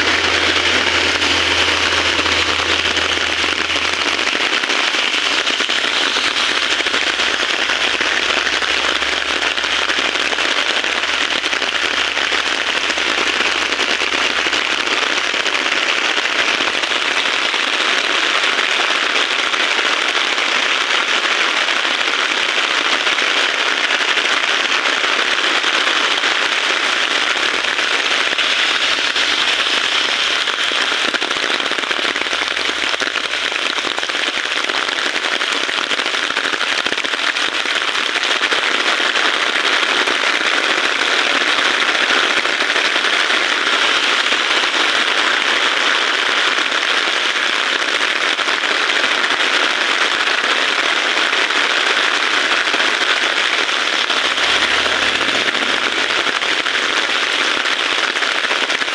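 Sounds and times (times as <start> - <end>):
heavy rain falling: 0.0 - 17.3, 26.4 - 47.6, 49.1 - 58.9.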